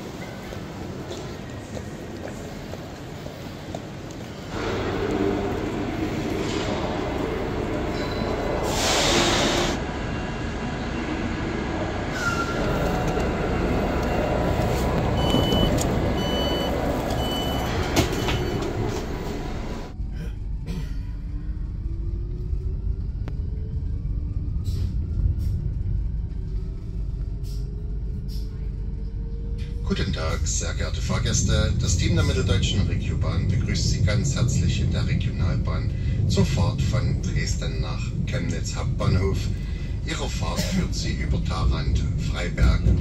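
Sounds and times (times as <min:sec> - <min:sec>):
train rumbling with rising whine: 0:00.0 - 0:43.0.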